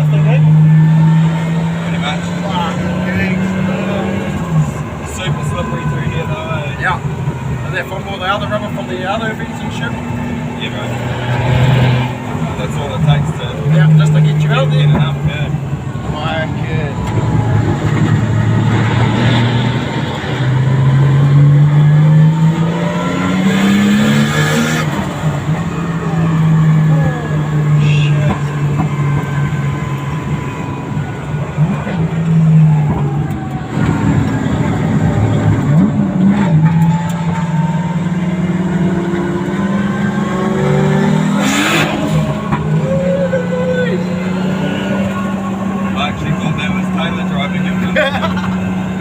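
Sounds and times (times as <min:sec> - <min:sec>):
car engine revving hard: 0:00.0 - 0:49.0.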